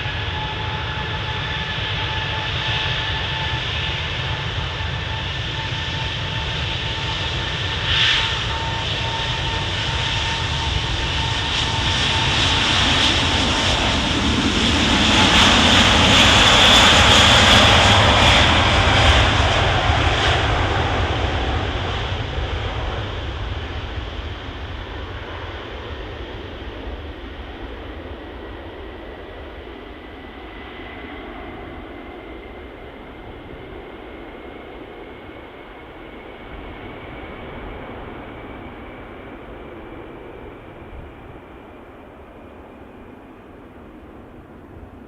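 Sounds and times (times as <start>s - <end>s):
jet engines roaring at takeoff: 0.0s - 45.0s.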